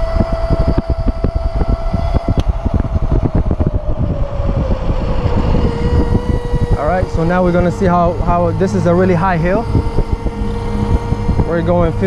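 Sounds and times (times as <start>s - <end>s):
electric motor whine: 0.0s - 12.0s
wind buffeting microphone: 0.0s - 12.0s.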